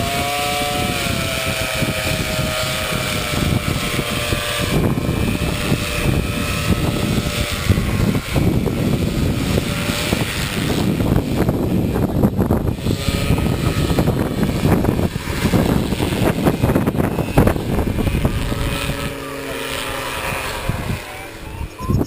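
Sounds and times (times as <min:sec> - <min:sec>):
distant motor droning: 0:00.0 - 0:22.0
wind noise on microphone: 0:00.0 - 0:22.0.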